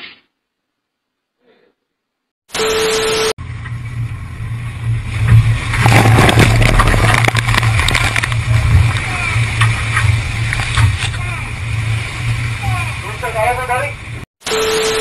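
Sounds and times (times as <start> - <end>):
boat engine drone: 2.5 - 15.0
burst of noise with steady tone: 2.5 - 15.0
wind: 2.5 - 15.0.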